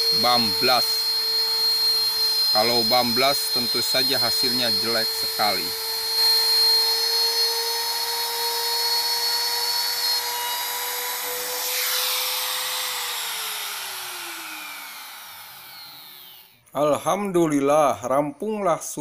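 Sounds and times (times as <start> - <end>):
router whining: 0.0 - 16.7.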